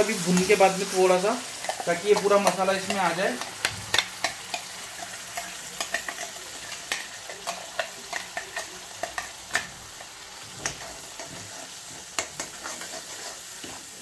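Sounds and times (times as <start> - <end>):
paste sizzling in oil: 0.0 - 14.0
metal spoon scraping pan: 0.2 - 14.0.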